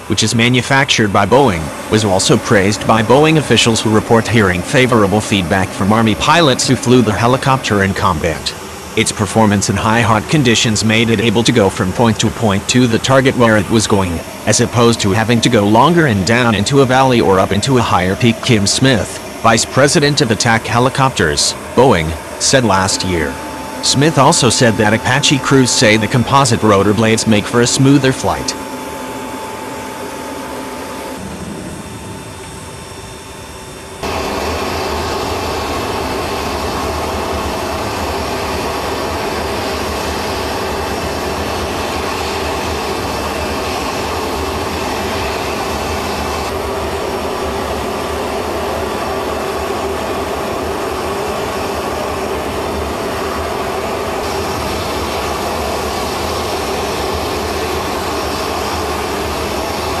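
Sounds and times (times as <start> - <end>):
helicopter engines and rotor: 0.0 - 60.0.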